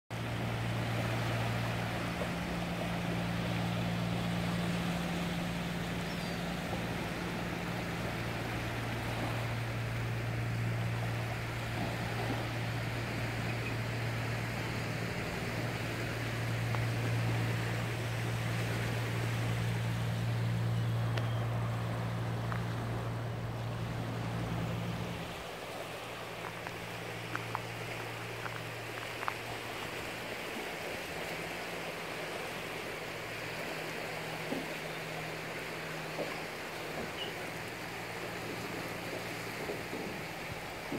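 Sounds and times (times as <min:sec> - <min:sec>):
low engine-like drone: 0:00.1 - 0:40.9
small waves on shore: 0:00.1 - 0:40.9.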